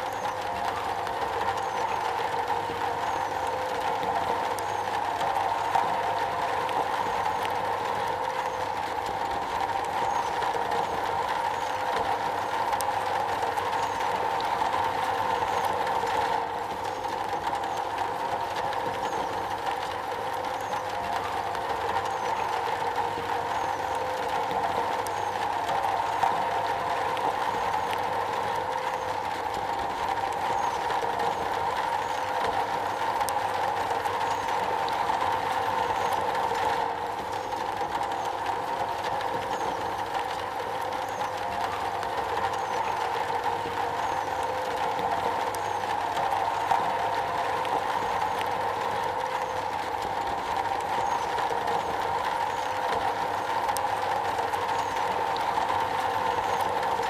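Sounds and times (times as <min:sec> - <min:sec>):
rain on a metal surface: 0:00.0 - 0:57.0.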